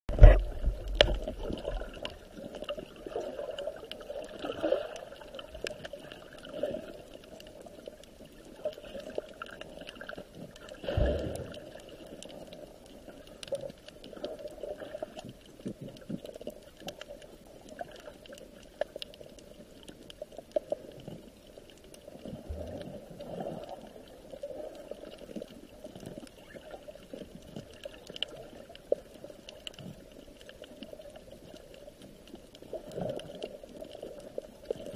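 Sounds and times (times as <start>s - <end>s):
water gurgling and trickling: 0.1s - 34.9s.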